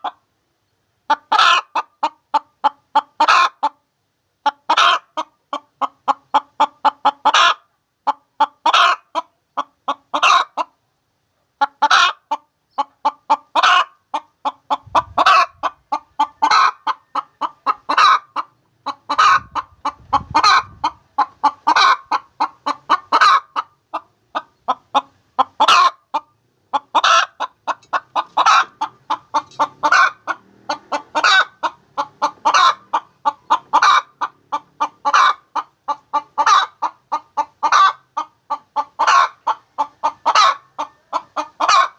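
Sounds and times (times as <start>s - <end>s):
hen cackling: 1.1s - 3.8s, 4.4s - 10.8s, 11.6s - 41.9s.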